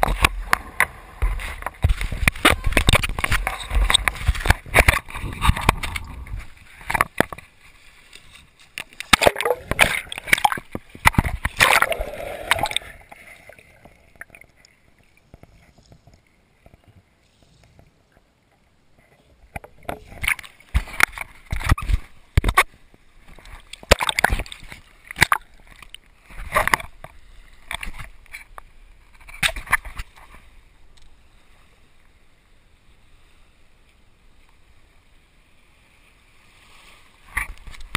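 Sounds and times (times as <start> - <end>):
sea water splashing: 0.0 - 16.7, 19.6 - 33.7.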